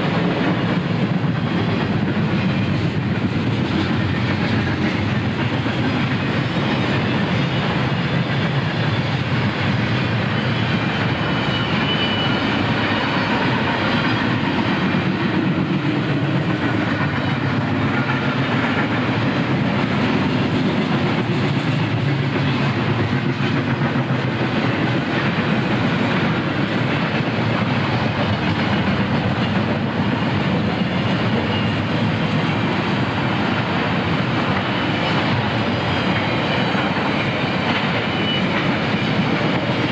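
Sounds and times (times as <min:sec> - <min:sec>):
freight train wheels rolling on rails: 0:00.0 - 0:39.9.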